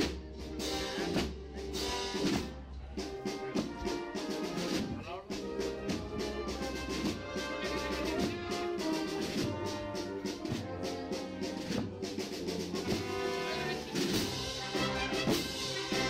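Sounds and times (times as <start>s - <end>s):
brass band march: 0.0s - 16.0s
steady drum beat: 0.0s - 16.0s.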